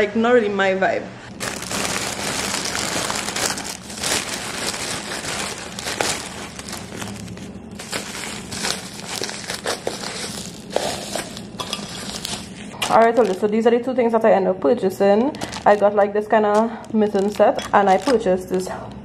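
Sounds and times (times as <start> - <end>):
plastic bags crinkling: 1.3 - 13.7, 15.1 - 18.6.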